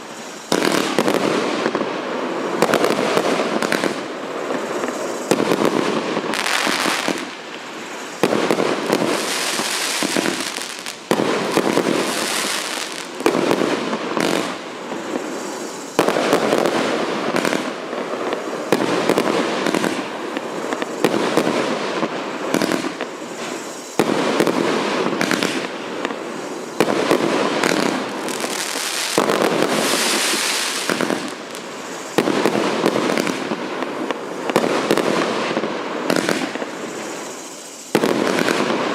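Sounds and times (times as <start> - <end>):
fireworks bangs: 0.0 - 38.9
small fireworks pops: 0.4 - 1.9, 2.6 - 26.2, 26.8 - 38.9.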